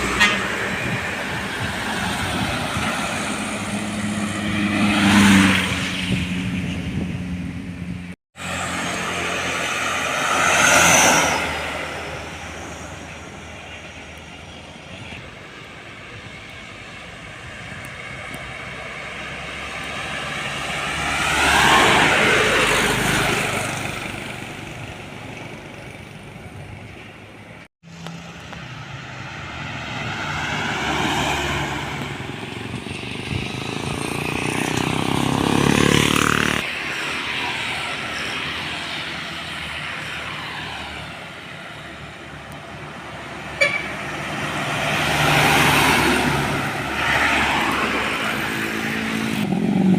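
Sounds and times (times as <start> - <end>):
trucks driving past: 0.0 - 49.9.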